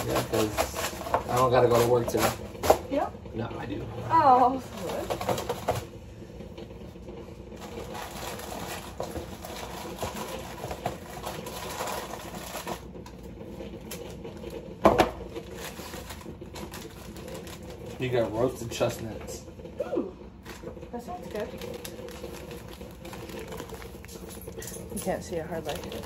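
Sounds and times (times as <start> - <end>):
coffee pods rattling in plastic bin: 0.0 - 2.9, 4.5 - 5.9, 7.6 - 13.0, 13.6 - 19.1, 20.4 - 26.0.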